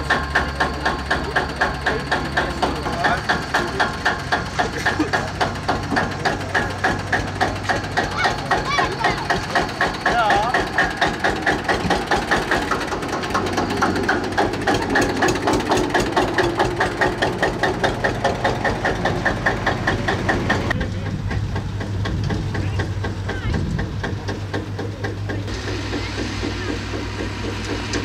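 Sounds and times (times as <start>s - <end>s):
low steady engine hum: 0.0s - 28.0s
tractor engine running: 0.0s - 28.0s.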